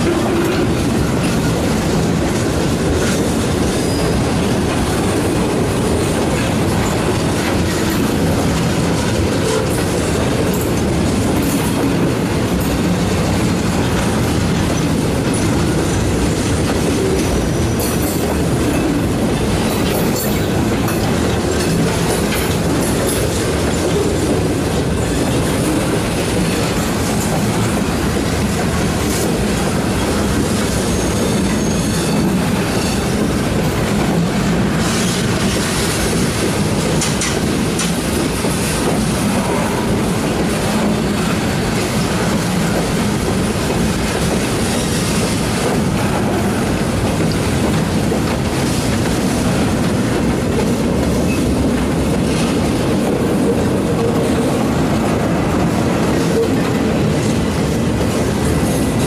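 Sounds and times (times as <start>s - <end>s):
steel wheels rumbling on rail: 0.0s - 59.0s
wheels clicking over rail joints: 0.0s - 59.0s.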